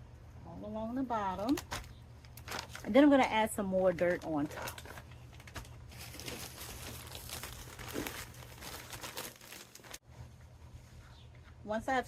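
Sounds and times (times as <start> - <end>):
crinkling and rustling: 1.4 - 11.6.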